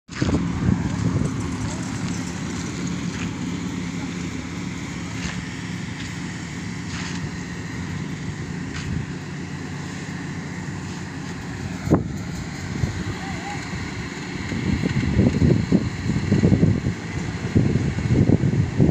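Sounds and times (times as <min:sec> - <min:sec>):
combine harvester engine drone: 0:00.1 - 0:18.9.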